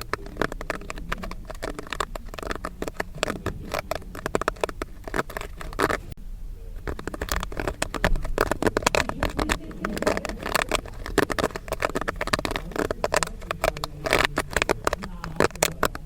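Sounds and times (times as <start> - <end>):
popcorn kernels popping: 0.0 - 16.0.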